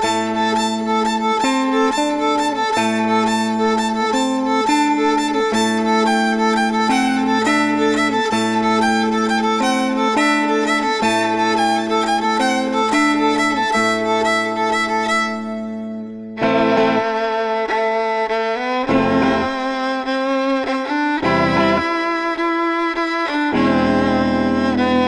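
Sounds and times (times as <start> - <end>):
instrumental melody: 0.0 - 25.0.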